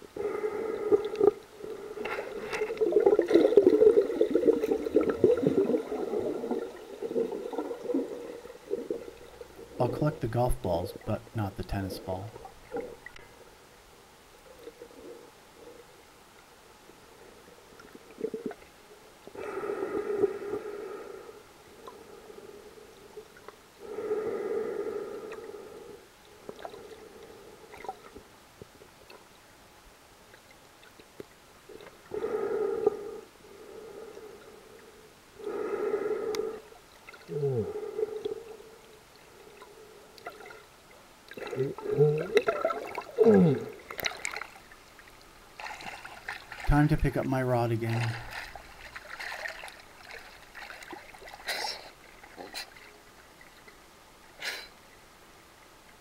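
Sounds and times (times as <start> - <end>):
gurgling water and bubbles: 0.0 - 16.2, 16.8 - 56.0.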